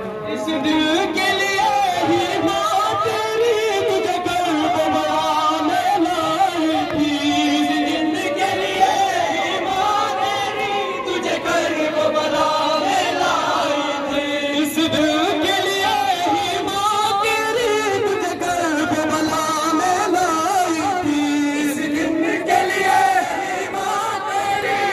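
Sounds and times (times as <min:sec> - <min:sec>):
men chanting a lament: 0:00.0 - 0:24.9.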